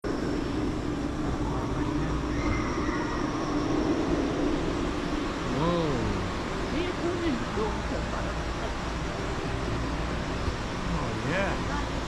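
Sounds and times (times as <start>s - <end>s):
drone propellers humming: 0.0s - 12.0s
rushing background noise: 0.0s - 12.0s.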